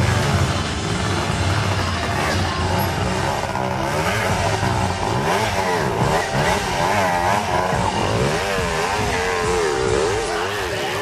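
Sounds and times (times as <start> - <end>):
dirt bike and atv engines revving: 0.0 - 11.0.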